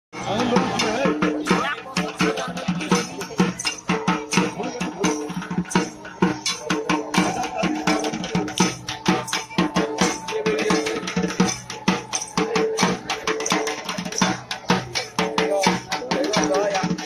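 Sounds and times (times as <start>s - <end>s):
barrel drums beaten with sticks: 0.2s - 17.0s.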